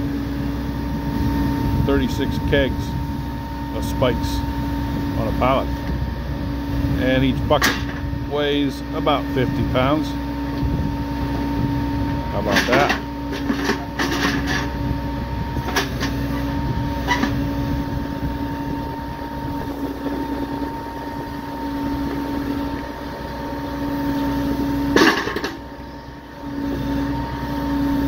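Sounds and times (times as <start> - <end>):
steady hydraulic hum: 0.0 - 28.0.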